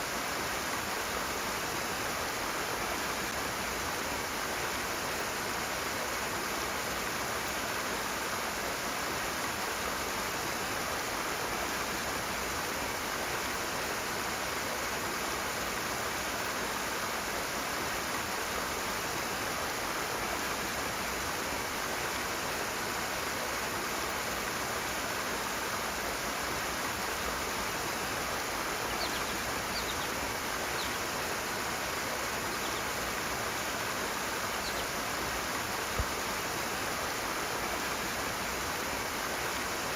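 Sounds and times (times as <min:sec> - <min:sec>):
fast-flowing water rushing: 0:00.0 - 0:39.9.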